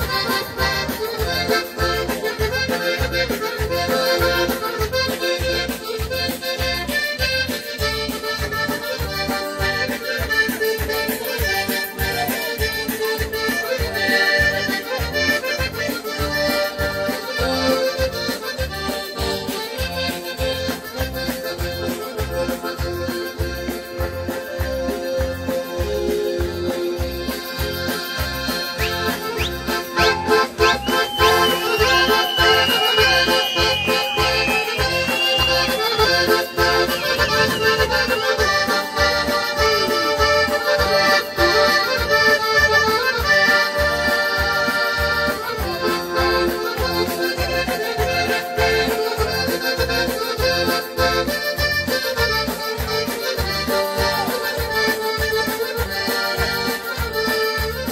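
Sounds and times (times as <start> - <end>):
accordion dance tune: 0.0 - 57.9.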